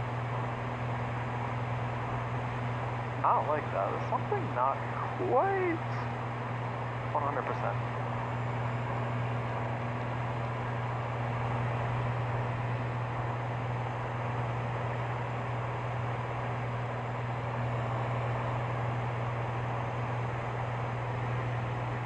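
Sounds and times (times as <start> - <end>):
aircraft engine droning: 0.0 - 22.0.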